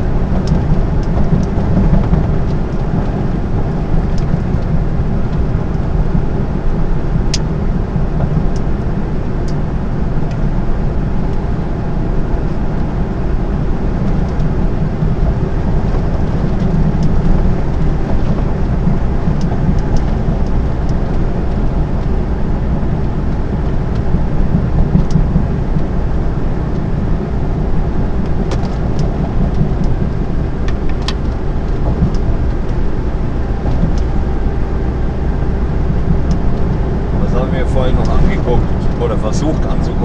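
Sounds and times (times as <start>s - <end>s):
lorry engine and road noise: 0.0s - 40.0s.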